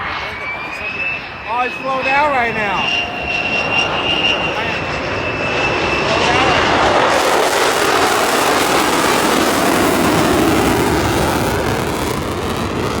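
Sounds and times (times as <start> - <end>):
aircraft engine rumble: 0.0 - 13.0.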